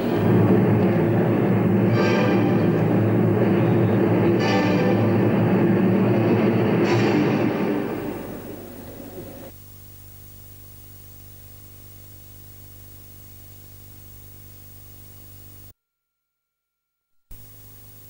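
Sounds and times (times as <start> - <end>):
steady hiss: 0.0 - 15.7, 17.3 - 18.0
low electrical hum: 0.0 - 18.0.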